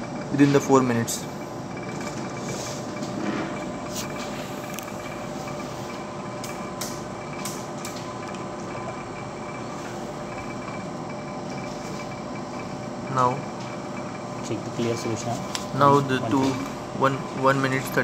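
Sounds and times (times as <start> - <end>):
lab stirrer motor hum: 0.0 - 18.0.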